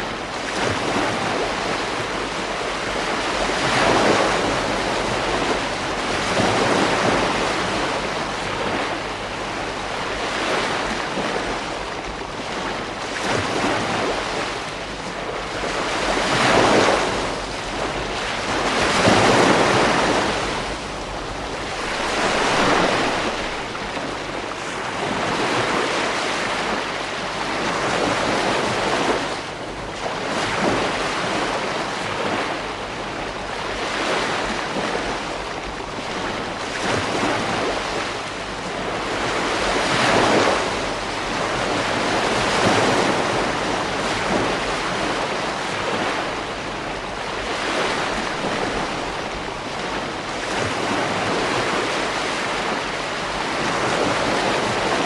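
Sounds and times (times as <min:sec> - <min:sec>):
ocean waves breaking: 0:00.0 - 0:55.0
wind on microphone: 0:00.0 - 0:55.0.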